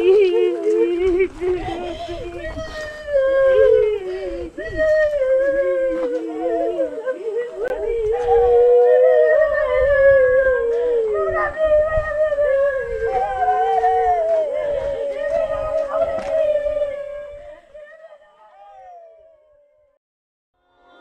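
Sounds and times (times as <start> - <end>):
people wailing: 0.0 - 19.4.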